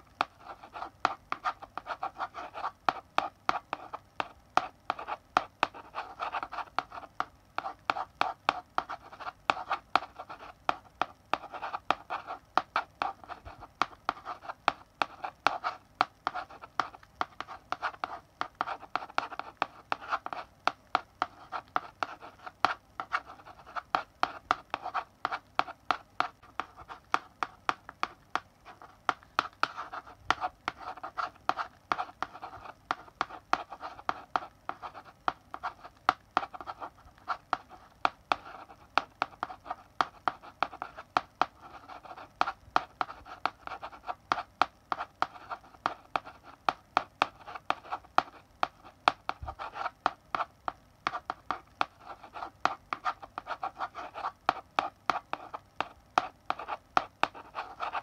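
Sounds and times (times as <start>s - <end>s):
chalk writing on blackboard: 0.0s - 58.0s.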